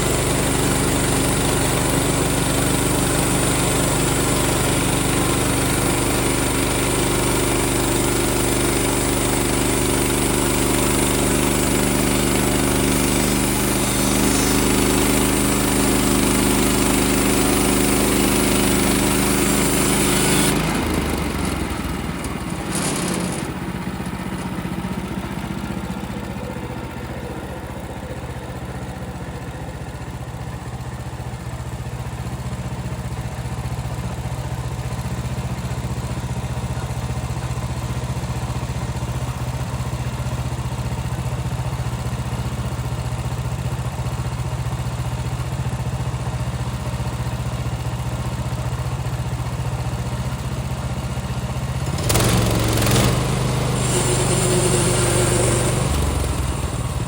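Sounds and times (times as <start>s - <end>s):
small gas engine running: 0.0s - 57.0s.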